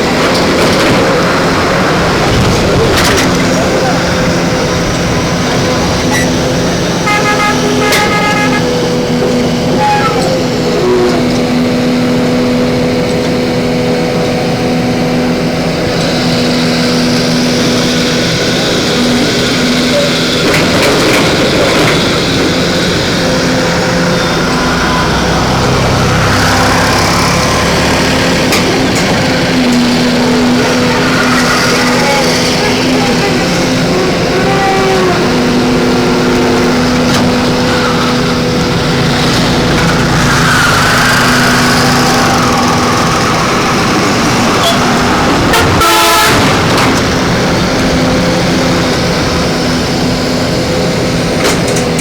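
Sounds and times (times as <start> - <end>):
excavator diesel engine humming: 0.0 - 52.0.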